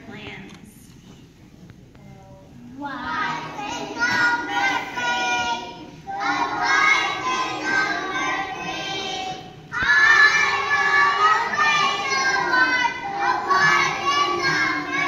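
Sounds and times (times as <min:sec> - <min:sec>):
children singing together: 0:02.8 - 0:15.0.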